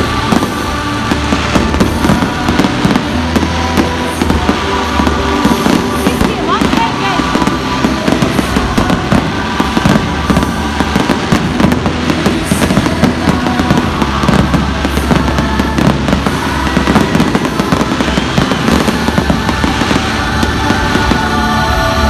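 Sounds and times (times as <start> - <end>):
fireworks bursting and crackling: 0.0 - 22.0
music: 0.0 - 22.0.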